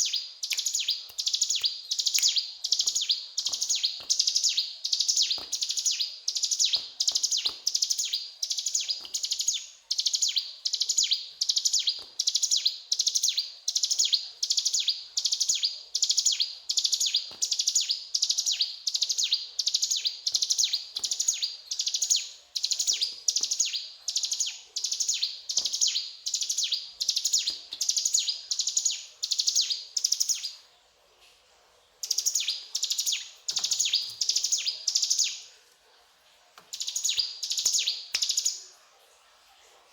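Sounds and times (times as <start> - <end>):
bird singing rattling phrases: 0.0 - 30.6, 32.0 - 35.5.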